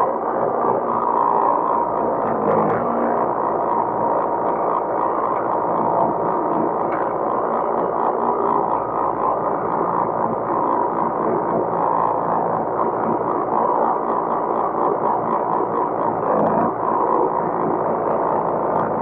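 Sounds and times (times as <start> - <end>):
tractor engine drone: 0.0 - 19.0.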